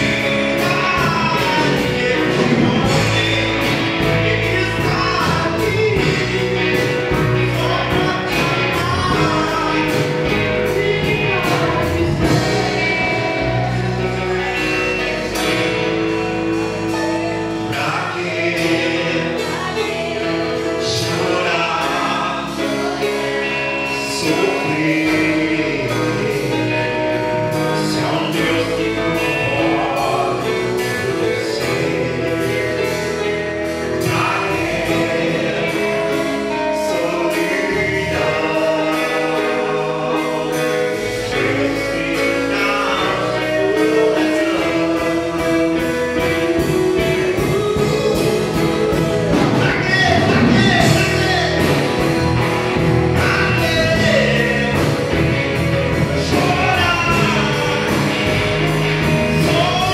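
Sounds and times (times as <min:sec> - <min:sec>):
backing voices singing: 0:00.0 - 0:59.9
man singing into microphone: 0:00.0 - 0:59.9
worship band playing: 0:00.0 - 0:59.9.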